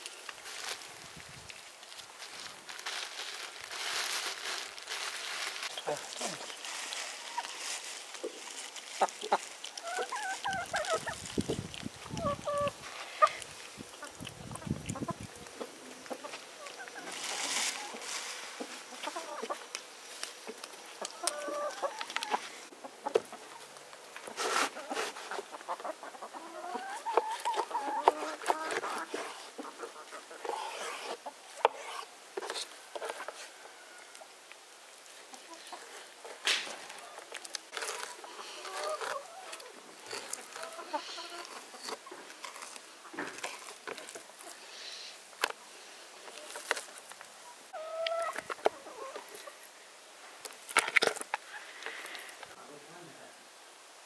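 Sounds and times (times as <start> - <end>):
chickens clucking: 2.9 - 34.3, 35.1 - 45.6, 46.2 - 49.7.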